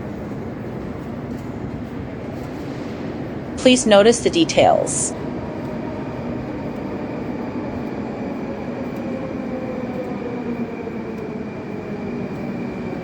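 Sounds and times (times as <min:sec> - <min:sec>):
metro train rumbling with whine: 0:00.0 - 0:13.0.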